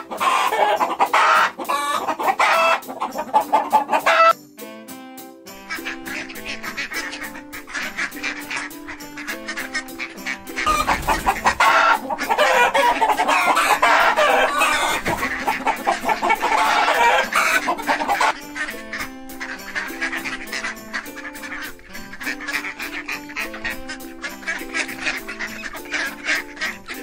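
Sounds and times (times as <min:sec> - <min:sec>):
chickens clucking and squawking: 0:00.0 - 0:04.4, 0:05.6 - 0:27.0
light background music: 0:00.0 - 0:27.0.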